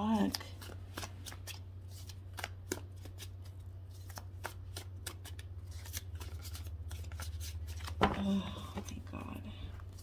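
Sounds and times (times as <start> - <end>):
cards being shuffled: 0.0 - 8.9.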